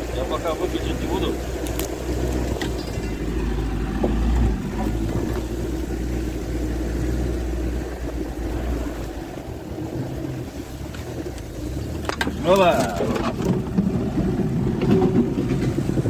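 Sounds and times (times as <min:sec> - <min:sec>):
off-road vehicle engine drone: 0:00.0 - 0:16.0.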